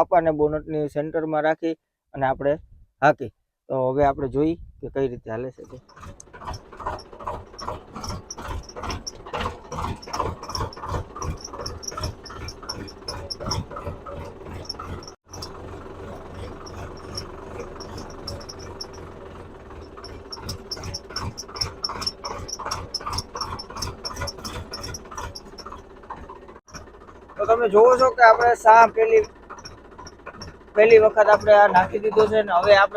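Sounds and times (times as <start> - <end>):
tractor engine running: 5.4 - 32.9
implement knocking and thumping: 5.6 - 32.9.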